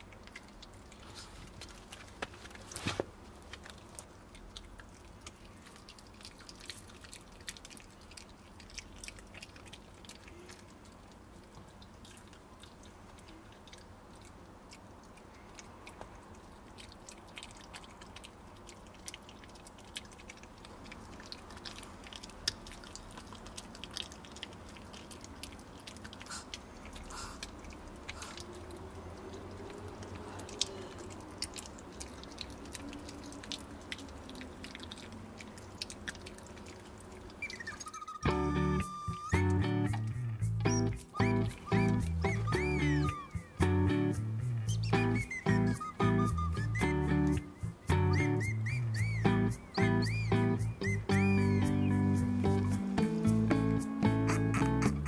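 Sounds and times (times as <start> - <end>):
dog chewing with crunches: 0.0 - 51.6.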